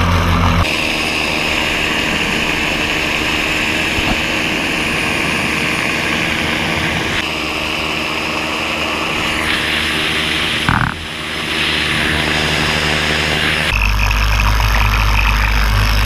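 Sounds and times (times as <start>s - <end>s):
two-stroke engine running: 0.0s - 16.0s
rushing airflow: 0.6s - 16.0s.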